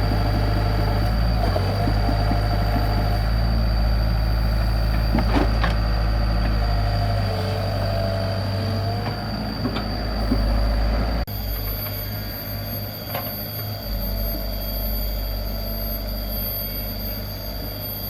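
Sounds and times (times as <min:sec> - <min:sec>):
diesel excavator engine running: 0:00.0 - 0:18.0
engine whine: 0:00.0 - 0:18.0.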